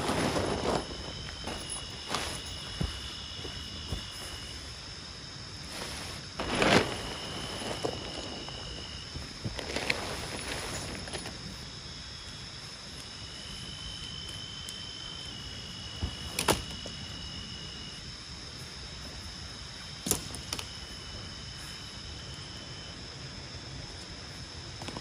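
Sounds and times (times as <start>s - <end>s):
high insect drone: 0.0s - 25.0s
lower insect tone: 0.0s - 25.0s.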